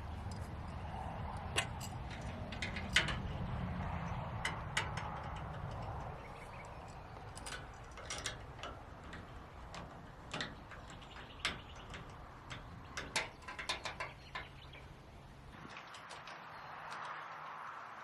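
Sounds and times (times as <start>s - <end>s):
sharp clicks and light knocks: 0.0s - 18.0s.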